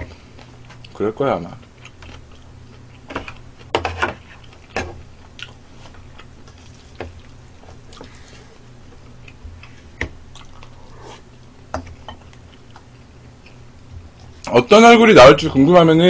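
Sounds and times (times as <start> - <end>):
quiet chewing: 0.0 - 14.5
low steady hum: 0.0 - 16.0.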